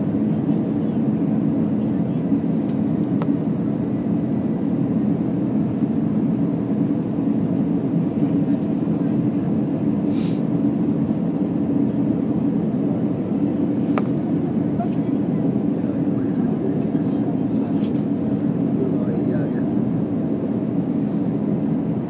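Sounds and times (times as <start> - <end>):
jet engine drone in cabin: 0.0 - 22.0.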